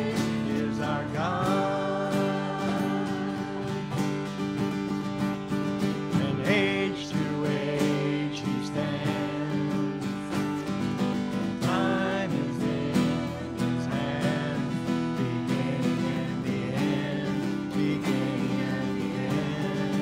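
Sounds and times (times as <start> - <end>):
several voices singing: 0.0 - 4.6, 5.9 - 20.0
acoustic and electric guitars: 0.0 - 20.0.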